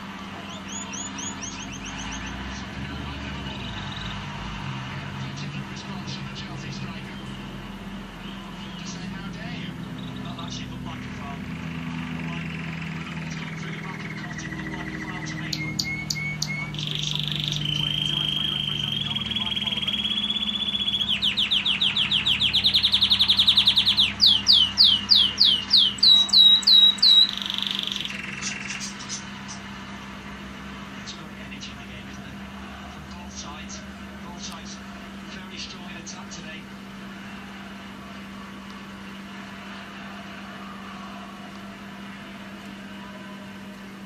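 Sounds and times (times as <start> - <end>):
canary singing: 0.0 - 39.6
steady low hum: 0.0 - 44.0.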